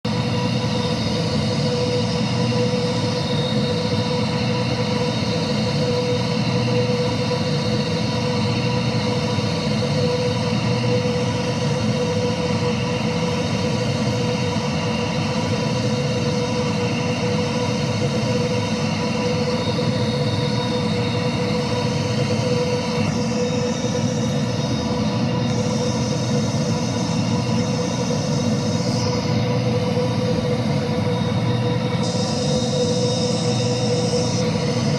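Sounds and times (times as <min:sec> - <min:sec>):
jet engines rumbling and whining: 0:00.0 - 0:34.9.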